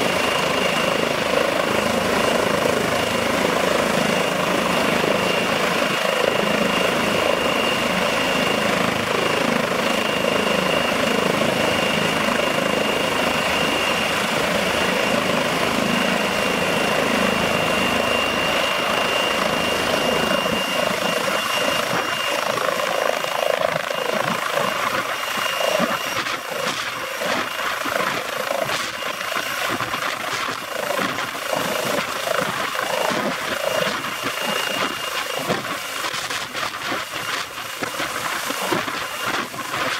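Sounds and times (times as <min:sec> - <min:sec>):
helicopter rotor beating: 0:00.0 - 0:39.9
helicopter turbine whine: 0:00.0 - 0:39.9.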